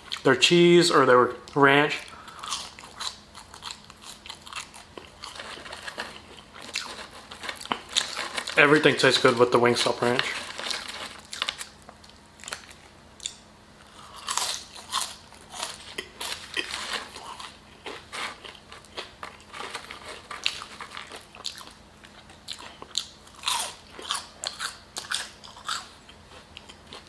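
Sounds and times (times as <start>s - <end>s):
person chewing crunchy food: 2.0s - 27.0s.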